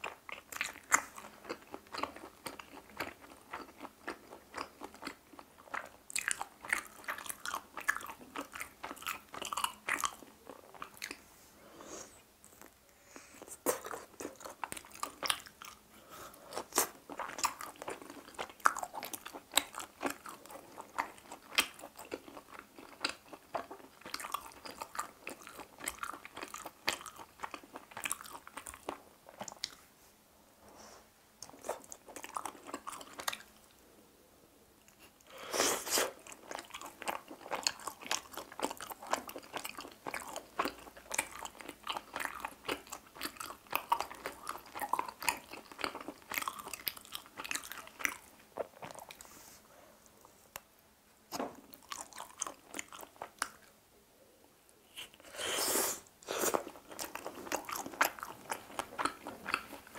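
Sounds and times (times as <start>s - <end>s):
close chewing and crunching: 0.0s - 11.2s, 12.4s - 29.8s, 31.4s - 33.8s, 34.8s - 49.5s, 51.3s - 53.8s, 56.2s - 59.9s.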